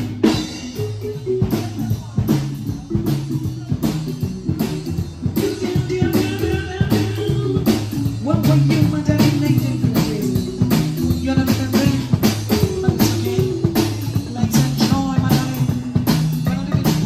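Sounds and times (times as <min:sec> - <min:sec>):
drum kit beat: 0:00.0 - 0:17.0
marimba notes: 0:00.0 - 0:17.0.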